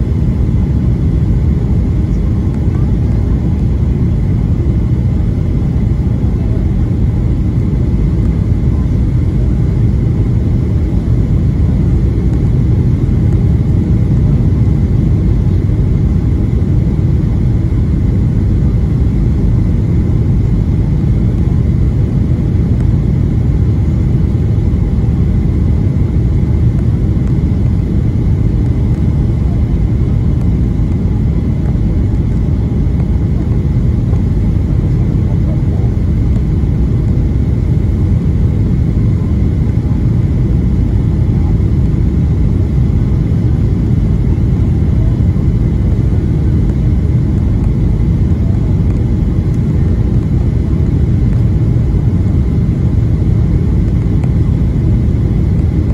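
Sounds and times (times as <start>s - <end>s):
aircraft cabin engine rumble: 0.0s - 55.9s
faint steady whine: 0.0s - 55.9s.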